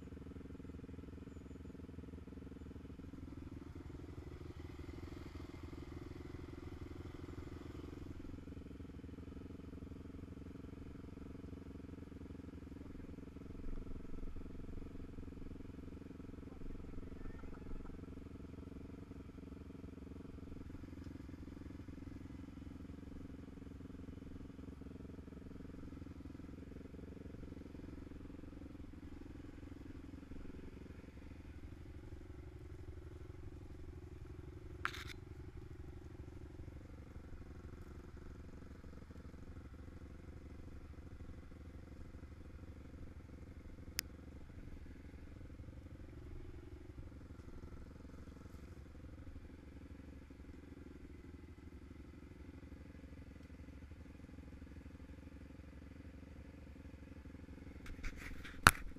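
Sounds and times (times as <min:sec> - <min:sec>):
quad bike engines running: 0:00.0 - 0:58.9.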